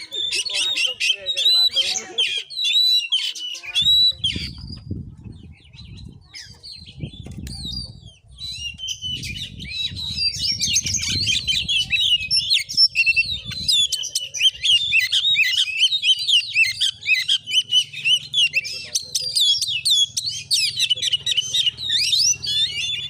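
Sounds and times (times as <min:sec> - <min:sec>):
bird singing chirps and trills: 0:00.0 - 0:23.0.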